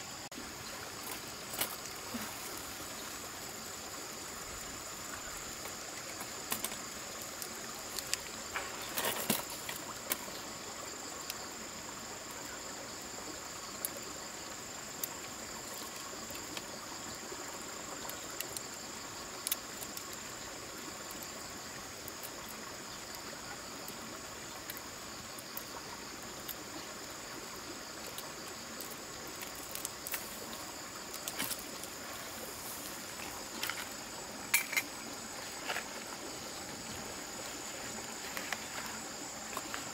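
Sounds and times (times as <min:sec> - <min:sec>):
insects chirring: 0:00.0 - 0:39.9
stream water running: 0:00.0 - 0:39.9.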